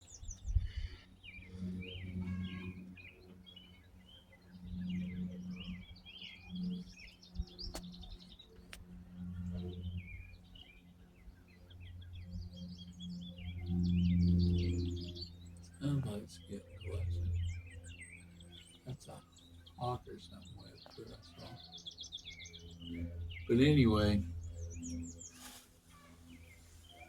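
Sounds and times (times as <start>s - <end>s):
low hum: 0.0s - 27.0s
small birds chirping: 0.0s - 27.0s.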